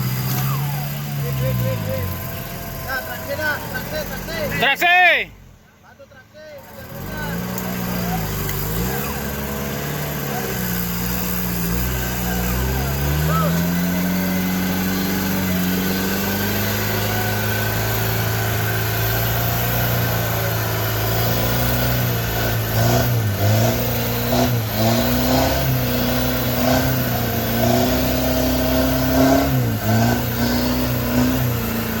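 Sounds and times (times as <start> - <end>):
car engine running under load: 0.0 - 32.0.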